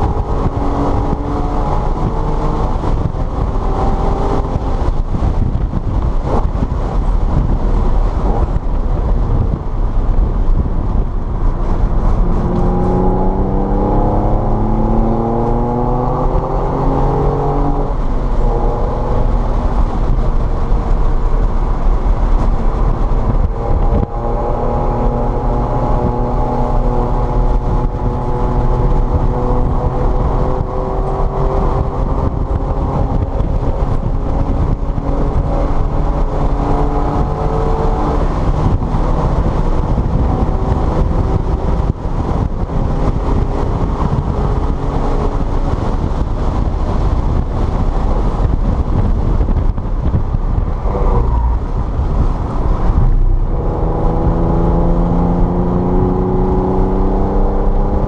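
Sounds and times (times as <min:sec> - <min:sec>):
car engine accelerating: 0:00.0 - 0:58.0
road and wind rumble: 0:00.0 - 0:58.0.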